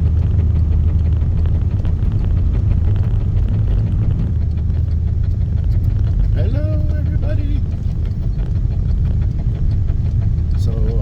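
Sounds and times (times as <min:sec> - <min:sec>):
low road rumble: 0:00.0 - 0:11.0.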